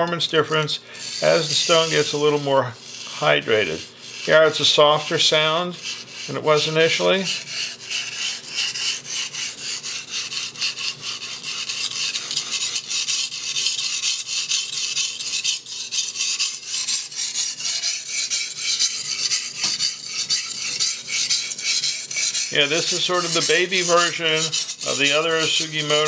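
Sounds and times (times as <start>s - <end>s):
blade scraping on whetstone: 0.3s - 26.0s.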